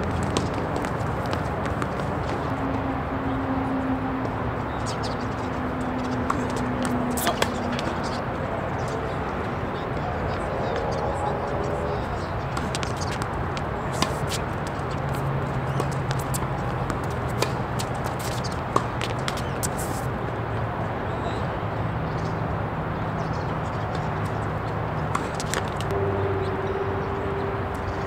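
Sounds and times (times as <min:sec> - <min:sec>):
crowd murmur: 0:00.0 - 0:20.2, 0:25.1 - 0:28.0.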